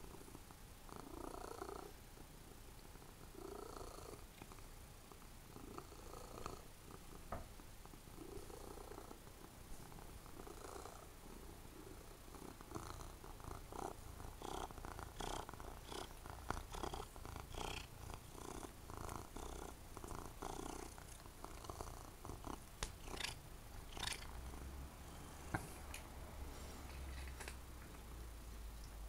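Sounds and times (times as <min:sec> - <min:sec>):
cat purring: 0:00.0 - 0:28.7.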